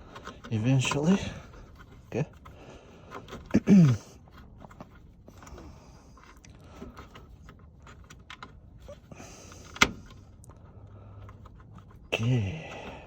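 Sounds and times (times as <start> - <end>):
faint rustling and scraping: 0.0 - 13.0.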